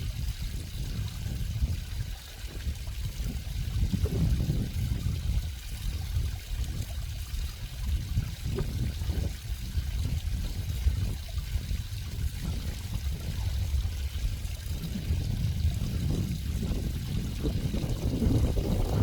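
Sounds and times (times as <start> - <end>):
stream water trickling and rushing: 0.0 - 19.0.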